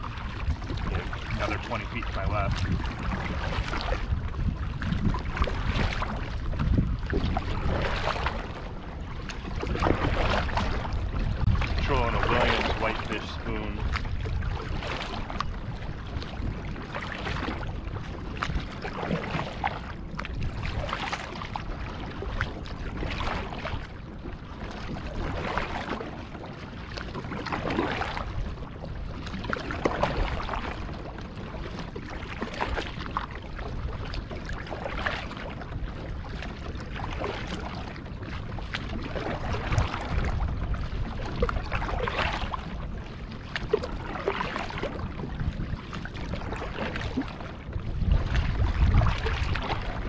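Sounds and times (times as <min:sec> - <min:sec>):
paddle splashing in water: 0:00.0 - 0:50.0.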